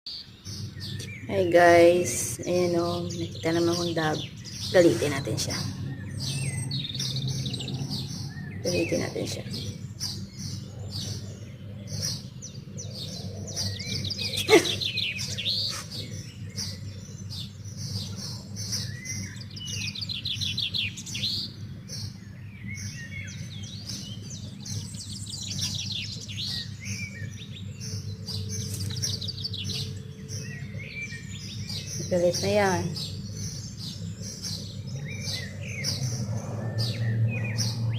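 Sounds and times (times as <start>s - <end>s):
birds chirping and trilling: 0.1s - 37.9s
steady low hum: 0.1s - 37.9s.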